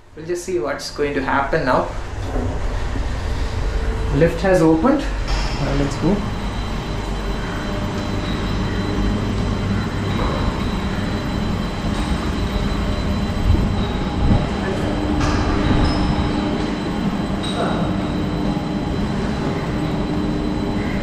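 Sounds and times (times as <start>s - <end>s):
mechanical rumble of cable machinery: 0.0s - 21.0s
steady hum: 0.0s - 21.0s.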